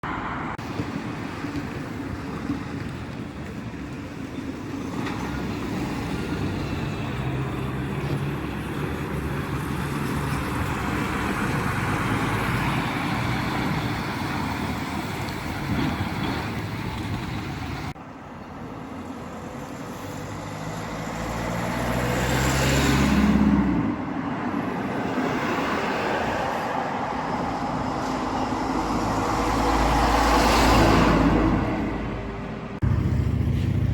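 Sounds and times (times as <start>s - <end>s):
heavy truck engines droning: 0.0s - 33.9s
truck passing close: 0.0s - 33.9s
tyre and traffic noise: 0.0s - 33.9s.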